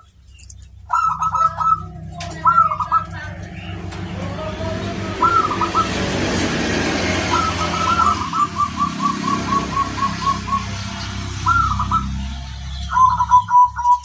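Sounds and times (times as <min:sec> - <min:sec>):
dove cooing: 0:00.8 - 0:14.0.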